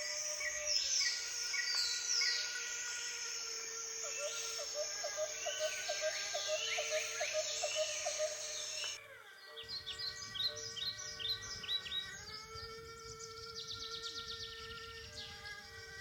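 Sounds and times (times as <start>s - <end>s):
drone of held tones: 0.0s - 16.0s.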